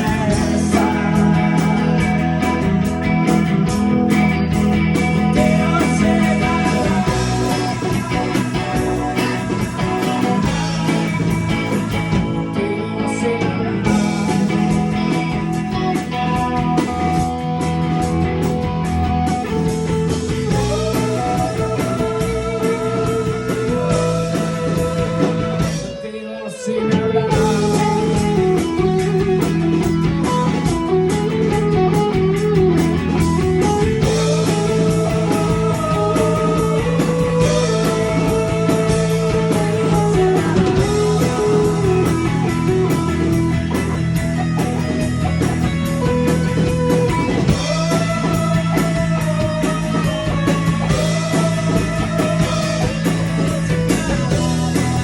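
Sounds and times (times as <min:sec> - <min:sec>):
bass guitar: 0:00.0 - 0:55.0
drums: 0:00.0 - 0:55.0
electric guitar melody: 0:00.0 - 0:55.0.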